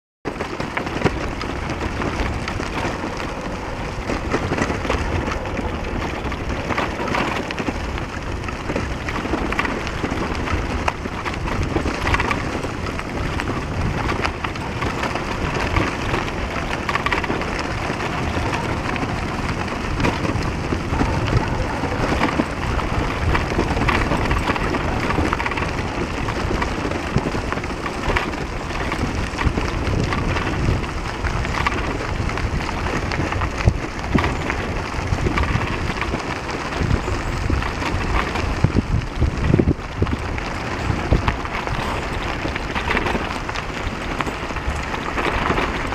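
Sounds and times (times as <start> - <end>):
bicycle tyres rumbling on road: 0.3 - 45.9
wind buffeting microphone: 0.3 - 45.9.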